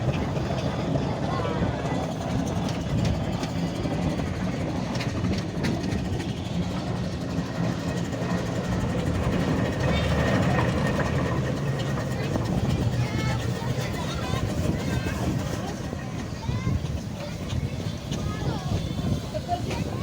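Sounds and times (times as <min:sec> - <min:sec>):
steam traction engine running: 0:00.0 - 0:20.0.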